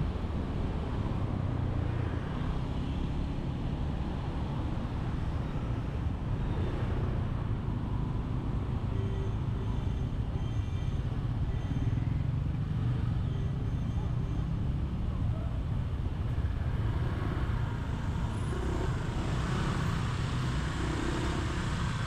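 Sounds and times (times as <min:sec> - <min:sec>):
road and traffic noise: 0:00.0 - 0:22.0.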